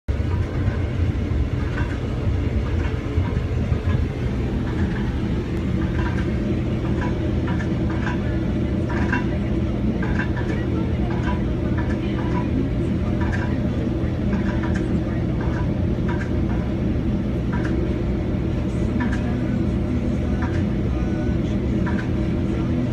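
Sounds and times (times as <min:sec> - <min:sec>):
crane diesel engine drone: 0:00.1 - 0:22.9.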